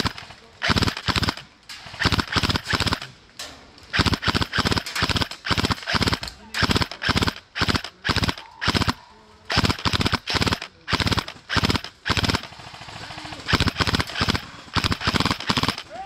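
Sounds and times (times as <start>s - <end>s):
airsoft gun full-auto bursts: 0.0s - 3.1s, 3.9s - 15.9s.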